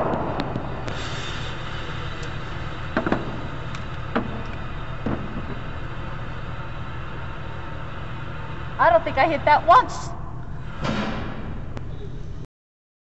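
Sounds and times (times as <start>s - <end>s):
low background hum: 0.0s - 12.5s.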